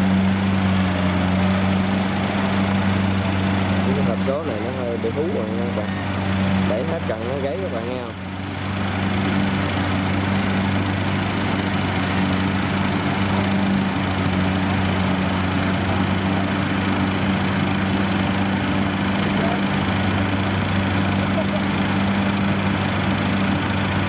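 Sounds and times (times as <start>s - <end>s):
combine harvester drone: 0.0s - 24.0s.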